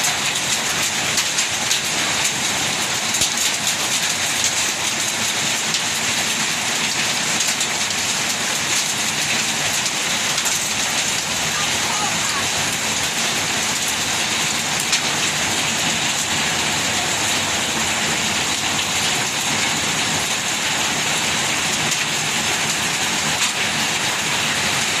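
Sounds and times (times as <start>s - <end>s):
heavy rain and hail falling: 0.0s - 25.0s
sharp hail hits: 0.0s - 25.0s.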